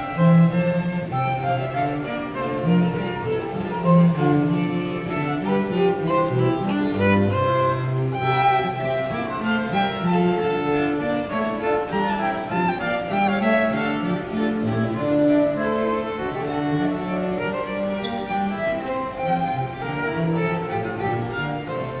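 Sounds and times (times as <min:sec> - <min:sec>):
cello playing low line: 0:00.0 - 0:22.0
violins playing melody: 0:00.0 - 0:22.0.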